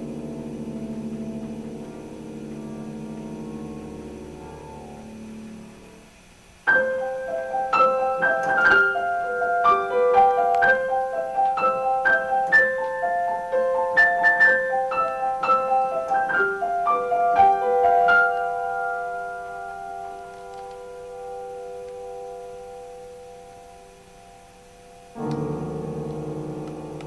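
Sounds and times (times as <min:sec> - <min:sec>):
keyboard melody: 0:00.0 - 0:27.0.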